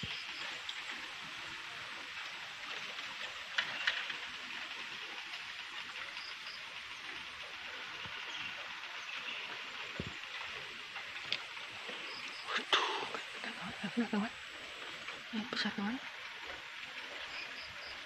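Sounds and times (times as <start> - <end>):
flowing river water: 0.0 - 18.0.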